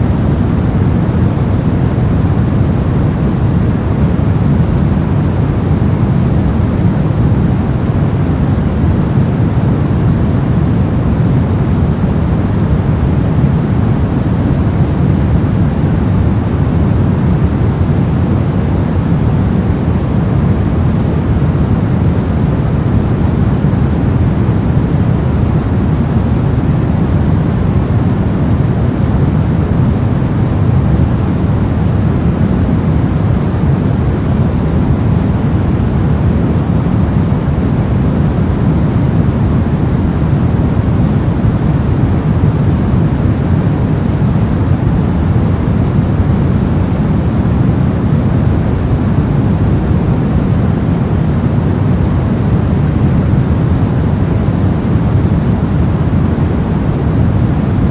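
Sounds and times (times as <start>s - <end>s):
brown noise: 0.0s - 57.9s.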